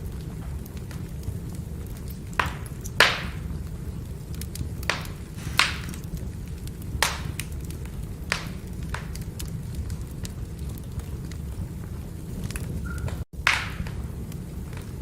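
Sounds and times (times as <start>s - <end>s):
firewood crackling: 0.0s - 15.0s
low rumble of flames: 0.0s - 15.0s
sharp fire pops: 0.0s - 15.0s.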